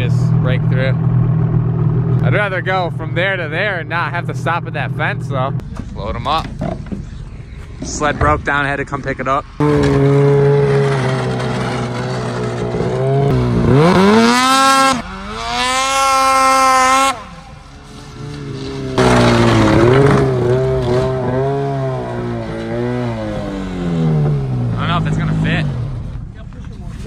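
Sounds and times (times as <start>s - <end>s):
snowmobile engine revving: 0.0s - 6.4s, 7.0s - 27.0s.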